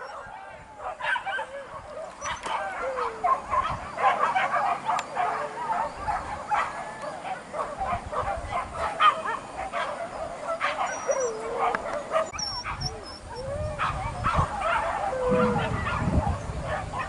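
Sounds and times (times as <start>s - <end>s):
dogs whining: 0.0s - 0.3s, 1.0s - 8.0s, 9.2s - 17.0s
dogs yelping and barking: 0.0s - 17.0s.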